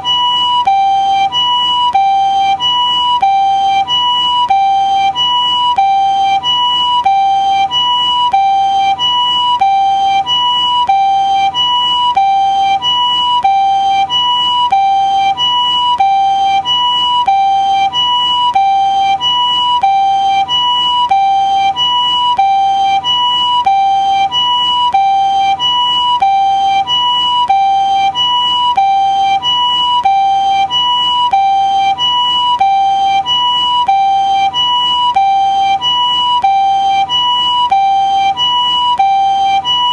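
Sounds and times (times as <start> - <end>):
two-tone ambulance siren: 0.0 - 39.9.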